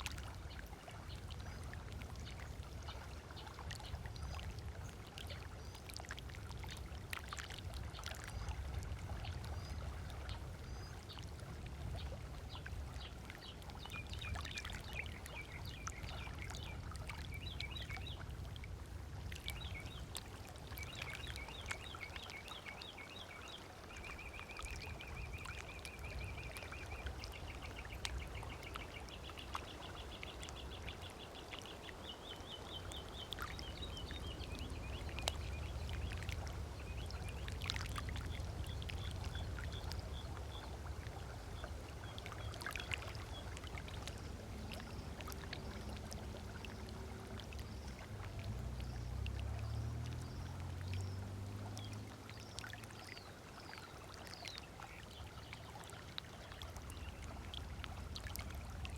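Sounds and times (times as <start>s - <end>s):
small waves lapping on shore: 0.0s - 58.9s.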